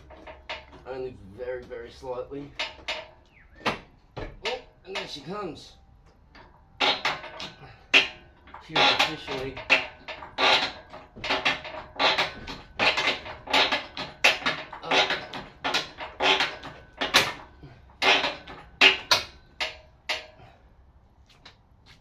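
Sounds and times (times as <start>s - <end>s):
engine hoist pumping strokes: 0.0s - 20.9s.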